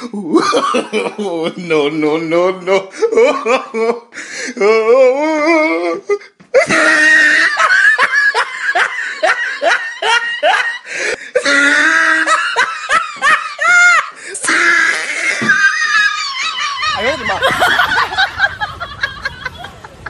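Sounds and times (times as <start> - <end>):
person laughing heartily: 0.0 - 1.7, 2.8 - 20.0.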